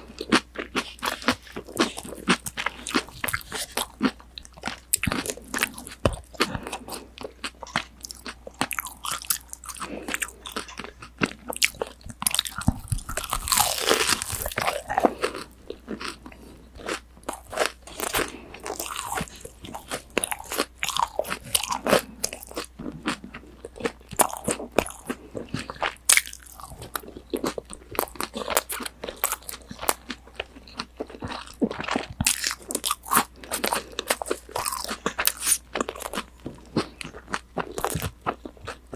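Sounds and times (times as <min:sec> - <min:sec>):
crunchy food chewing: 0:00.0 - 0:38.9.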